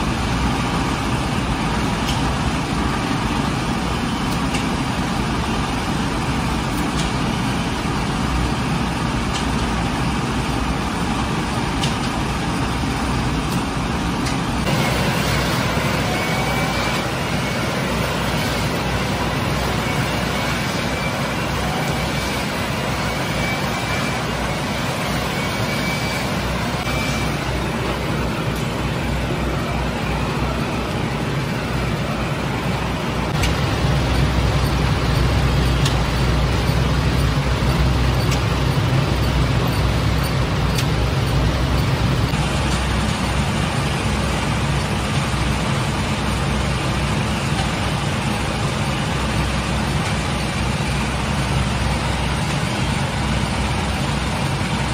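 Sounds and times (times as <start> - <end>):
oven burners and blower running: 0.0 - 54.9.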